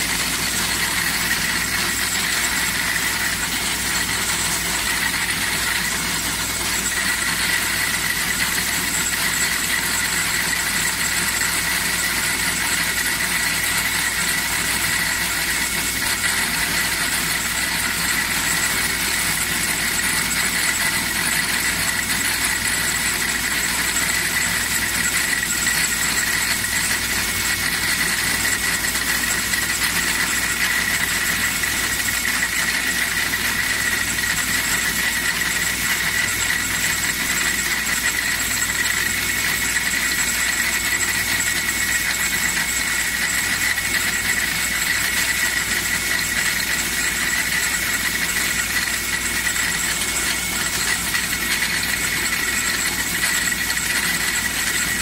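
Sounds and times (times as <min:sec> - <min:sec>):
wood lathe running: 0:00.0 - 0:55.0.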